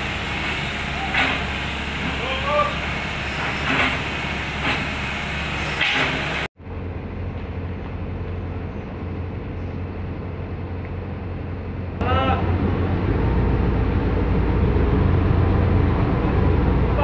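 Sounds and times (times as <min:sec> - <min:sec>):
deep engine drone: 0:00.0 - 0:17.0
excavator diesel engine running: 0:00.0 - 0:17.0.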